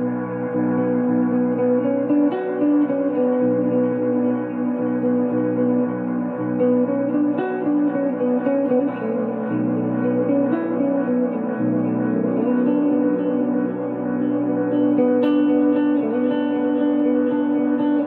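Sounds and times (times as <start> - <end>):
electric guitar with reverb: 0.0 - 18.0.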